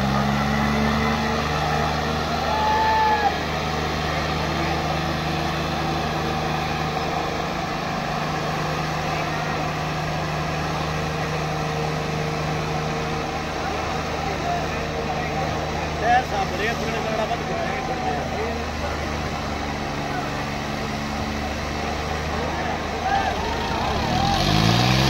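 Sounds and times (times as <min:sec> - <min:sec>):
diesel tractor engines under load: 0:00.0 - 0:25.0.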